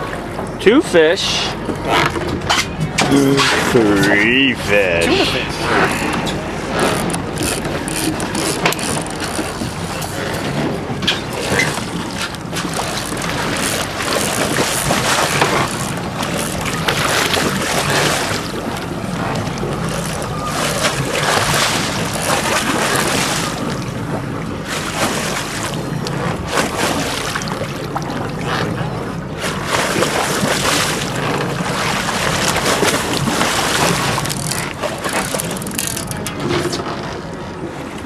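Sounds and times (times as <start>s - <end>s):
boat engine running: 0.0s - 38.0s
sea noise around hull: 0.0s - 38.0s.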